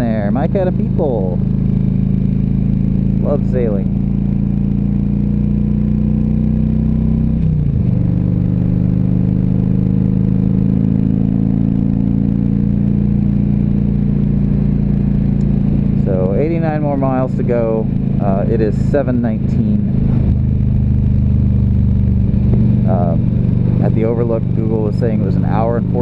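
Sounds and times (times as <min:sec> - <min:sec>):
motorcycle engine cruising: 0:00.0 - 0:26.0
road and wind rumble: 0:00.0 - 0:26.0.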